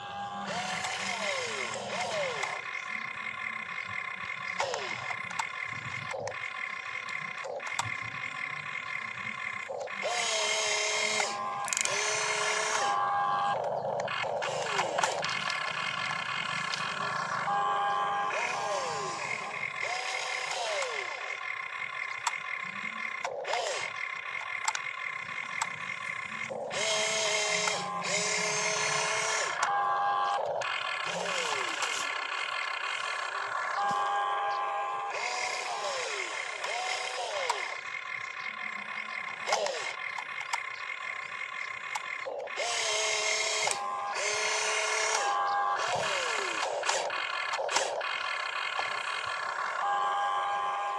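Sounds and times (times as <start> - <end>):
steady high hum: 0.0 - 50.9
toy electric motors whining: 0.0 - 50.9
sharp clicks: 0.5 - 17.5, 18.4 - 49.8.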